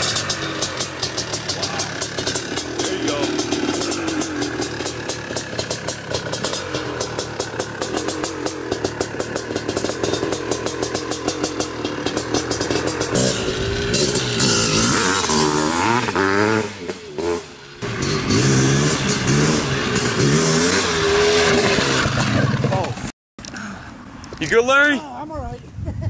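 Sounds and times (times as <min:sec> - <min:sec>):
dirt bike engine idling and revving: 0:00.0 - 0:23.1.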